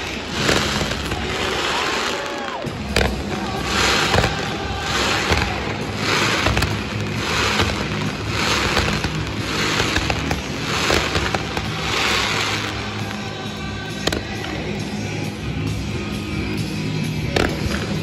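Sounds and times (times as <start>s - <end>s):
fireworks launching hiss: 0.0s - 14.6s
firework cracks and pops: 0.0s - 14.8s, 17.3s - 18.0s.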